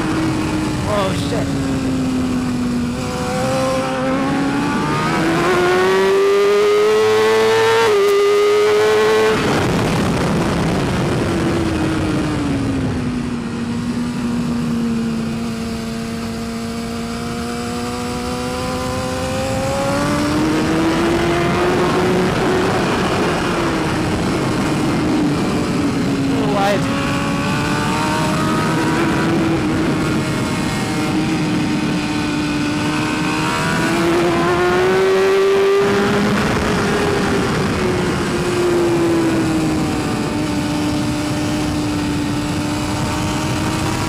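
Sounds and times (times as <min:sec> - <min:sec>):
motorcycle engine at high revs: 0:00.0 - 0:44.0
wind noise: 0:00.0 - 0:44.0.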